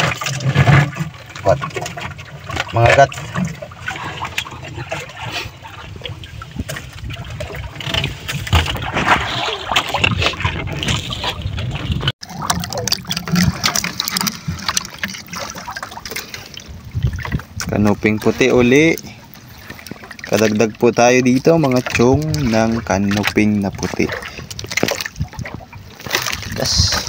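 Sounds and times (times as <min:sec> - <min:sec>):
sea water sloshing: 0:00.0 - 0:27.0.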